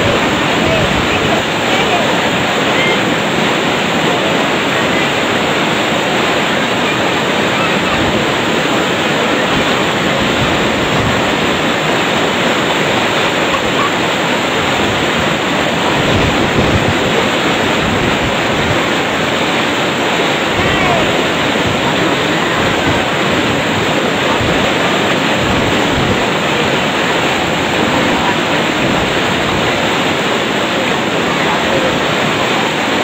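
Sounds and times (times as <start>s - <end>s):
fast-flowing water rushing: 0.0s - 33.0s.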